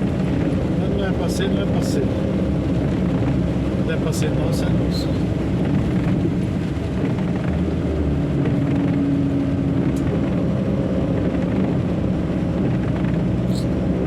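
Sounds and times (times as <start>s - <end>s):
truck engine drone inside cab: 0.0s - 14.0s.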